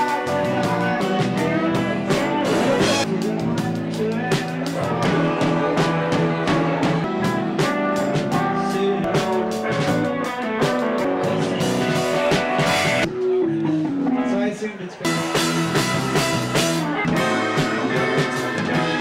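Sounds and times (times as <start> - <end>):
drum kit beat: 0.0 - 14.2, 15.0 - 19.0
guitar: 0.0 - 19.0
rock band playing: 0.0 - 19.0.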